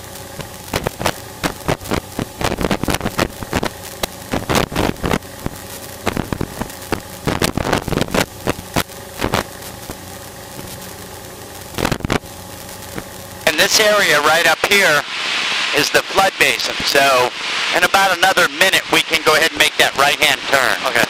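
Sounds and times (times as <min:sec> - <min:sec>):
airplane engine droning: 0:00.0 - 0:21.0
microphone crackling bursts: 0:00.0 - 0:21.0.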